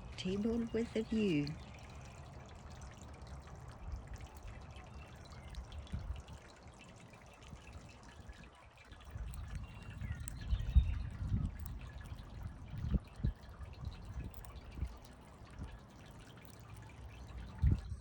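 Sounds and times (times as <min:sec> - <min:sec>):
squirrel gnawing nuts: 0:00.2 - 0:06.4, 0:07.0 - 0:18.0.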